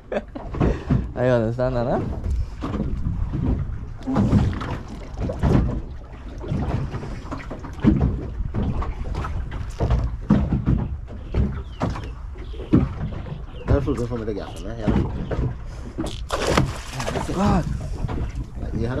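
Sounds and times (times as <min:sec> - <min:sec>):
wind buffeting microphone: 0:00.0 - 0:19.0
water slapping against boat hull: 0:00.1 - 0:19.0.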